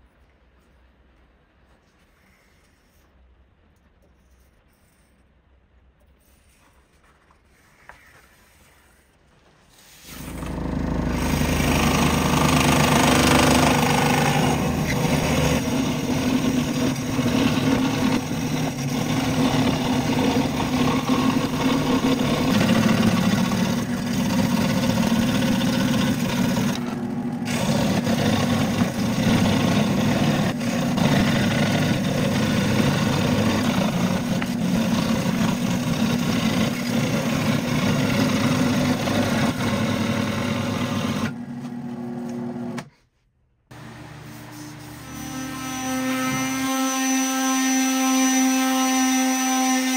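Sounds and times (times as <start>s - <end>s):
scroll saw cutting resin: 7.4s - 41.5s, 43.8s - 49.9s.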